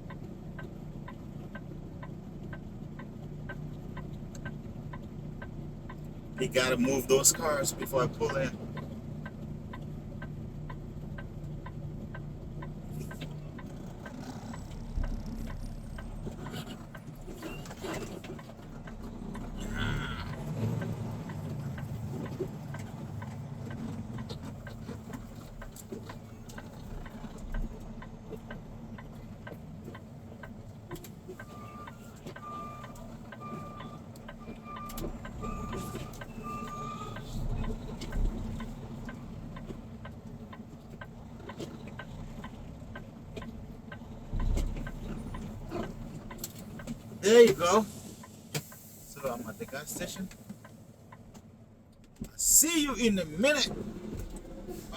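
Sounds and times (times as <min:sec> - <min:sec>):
truck engine idling: 0:00.0 - 0:54.9
turn signal ticking: 0:00.0 - 0:54.9.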